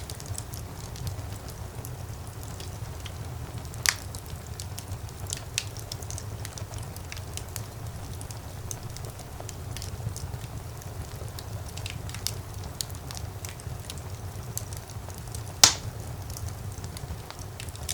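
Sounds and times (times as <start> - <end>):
fireplace crackling: 0.0 - 17.9.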